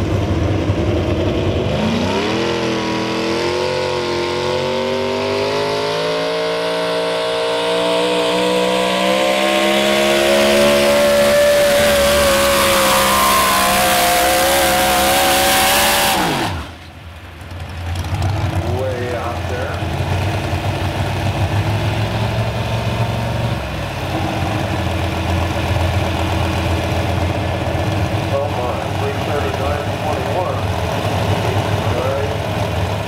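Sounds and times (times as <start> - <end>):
truck engine revving at high revs: 0.0 - 33.0.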